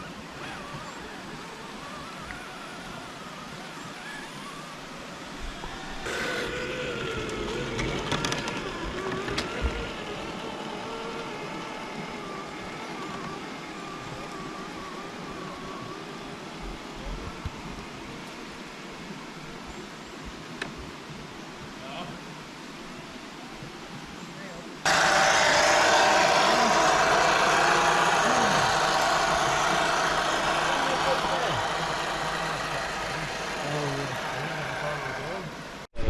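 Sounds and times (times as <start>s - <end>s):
electric motor whining: 0.0s - 19.5s, 24.8s - 35.9s.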